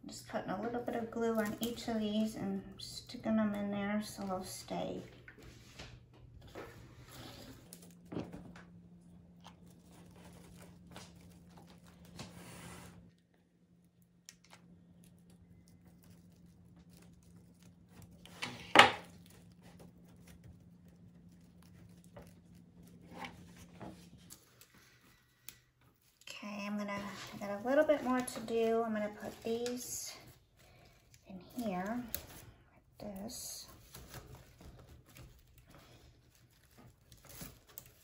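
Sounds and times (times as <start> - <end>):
plastic stems rustling and crinkling: 0.1 - 13.0, 14.3 - 38.0.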